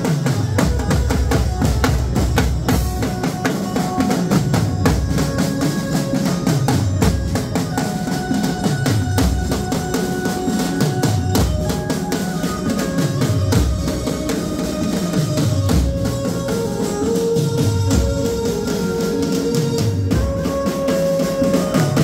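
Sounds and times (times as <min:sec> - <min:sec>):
drums beaten with sticks: 0:00.0 - 0:22.0
held melody line: 0:00.0 - 0:22.0.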